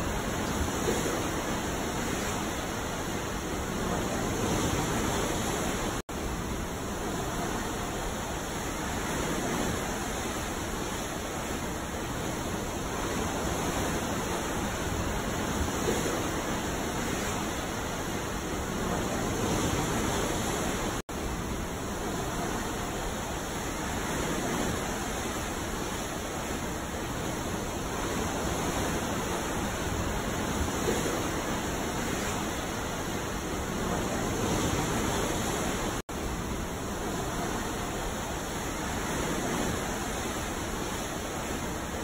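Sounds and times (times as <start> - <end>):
ocean waves: 0.0 - 42.0.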